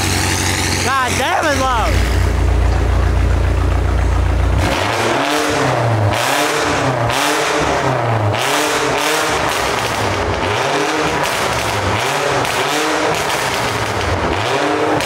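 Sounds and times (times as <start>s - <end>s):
car engine revving: 0.0s - 15.0s
exhaust crackling and popping: 0.0s - 15.0s.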